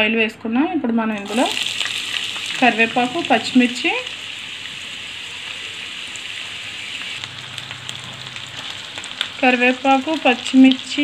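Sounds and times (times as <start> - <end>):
onions sizzling in oil: 1.2 - 11.0.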